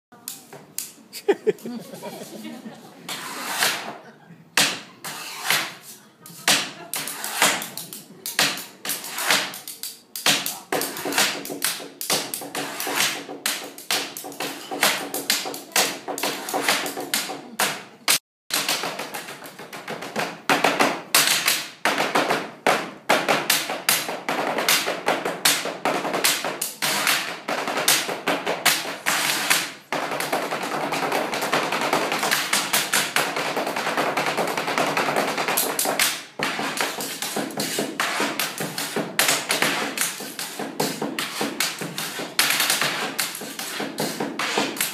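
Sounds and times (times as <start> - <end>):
tabletop percussion taps and thumps: 6.4 - 44.9.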